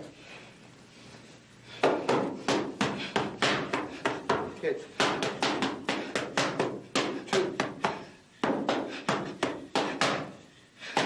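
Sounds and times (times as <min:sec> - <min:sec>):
boxing gloves smacking focus mitts: 0:01.7 - 0:11.0.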